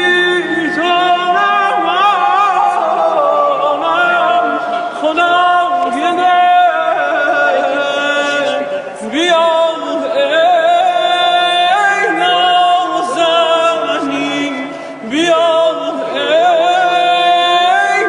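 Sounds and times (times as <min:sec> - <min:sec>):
man singing unaccompanied: 0:00.0 - 0:18.0.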